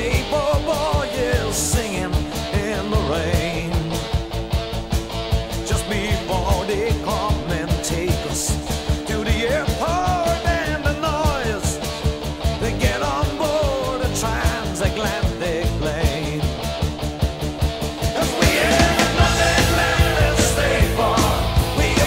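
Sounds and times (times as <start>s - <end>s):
bass guitar: 0.0s - 22.0s
rock band playing: 0.0s - 22.0s
steady drums: 0.0s - 22.0s.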